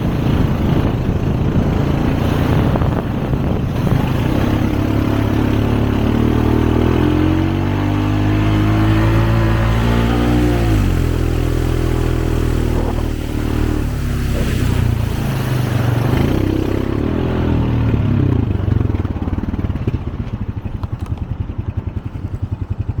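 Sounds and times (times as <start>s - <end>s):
vehicle engine revving: 0.0s - 20.2s.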